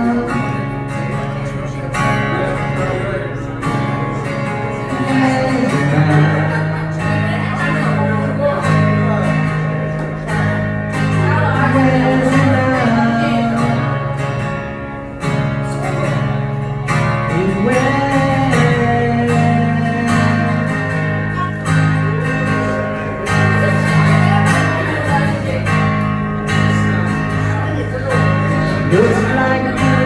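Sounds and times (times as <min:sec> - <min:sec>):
man singing: 0:00.0 - 0:14.4, 0:15.2 - 0:30.0
strummed acoustic guitar: 0:00.0 - 0:30.0.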